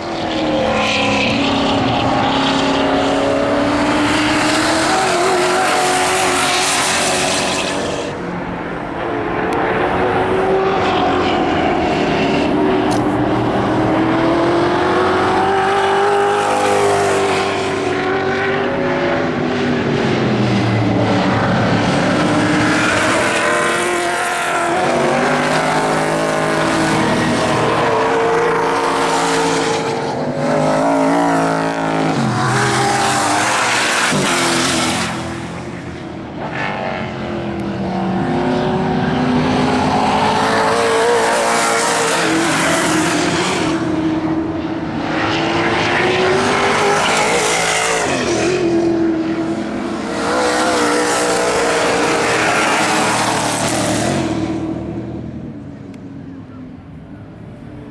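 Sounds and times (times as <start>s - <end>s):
car engines revving: 0.0s - 57.9s.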